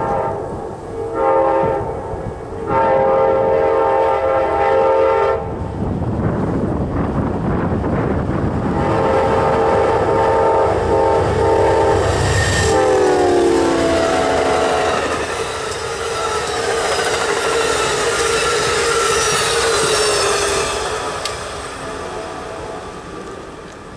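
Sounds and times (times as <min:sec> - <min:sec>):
train horn chord blasts: 0:00.0 - 0:05.6, 0:08.7 - 0:23.0
locomotive rumble: 0:00.0 - 0:23.9
passing train cars clatter: 0:00.0 - 0:23.9.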